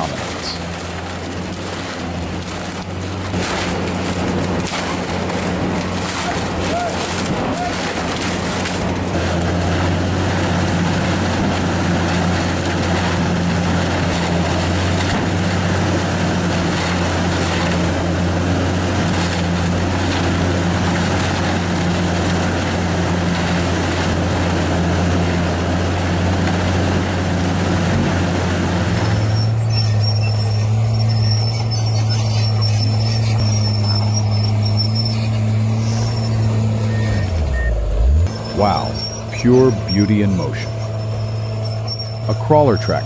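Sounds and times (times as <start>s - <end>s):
heavy machinery diesel engine: 0.0s - 43.0s
smooth engine hum with high whine: 0.0s - 43.0s.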